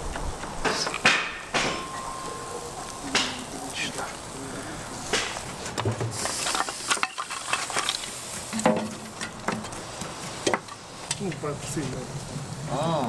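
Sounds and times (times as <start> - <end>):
skewers clicking and knocking: 0.0 - 4.0, 5.1 - 12.0
charcoal fire sizzling and crackling: 0.0 - 13.0.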